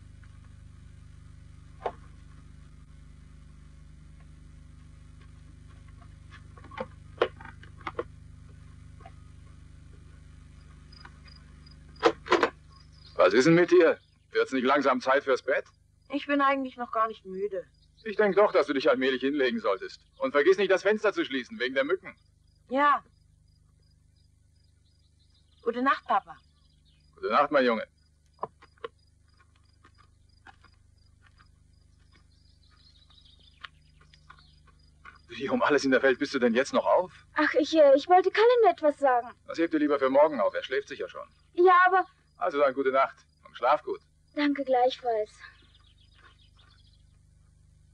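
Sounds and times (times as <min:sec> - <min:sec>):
faint crickets chirping: 0:00.0 - 0:47.9
film soundtrack hum: 0:00.0 - 0:47.9.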